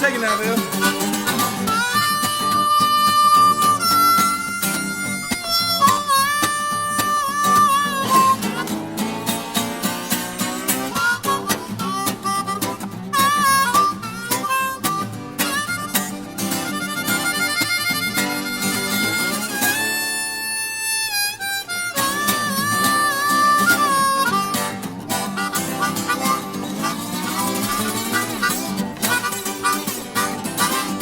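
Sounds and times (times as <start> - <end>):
acoustic guitar strumming: 0.0 - 31.0
blues harmonica solo: 0.0 - 31.0.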